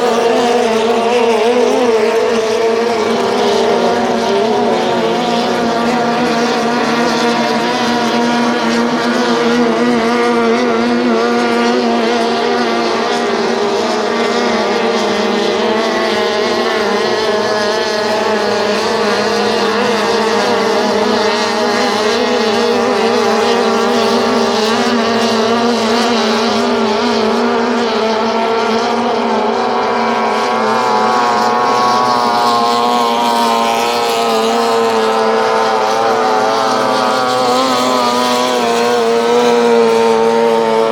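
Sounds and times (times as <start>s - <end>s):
outboard engines running flat out: 0.0s - 40.9s.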